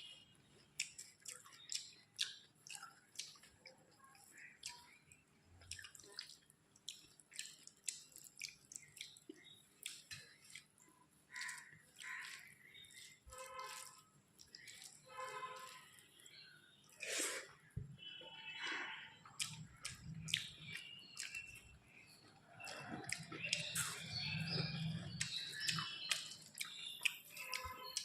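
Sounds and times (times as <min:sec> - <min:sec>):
wet chewing and lip smacks: 0:00.8 - 0:15.0, 0:15.6 - 0:17.1, 0:18.6 - 0:28.0.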